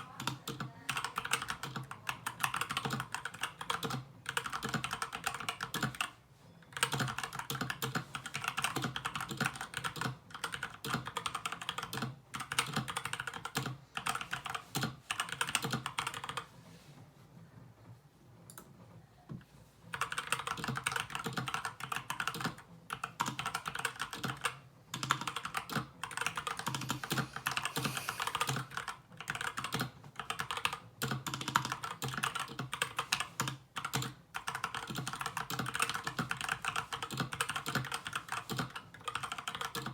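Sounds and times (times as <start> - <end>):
typing on mechanical keyboard: 0.0 - 16.5, 19.9 - 39.9.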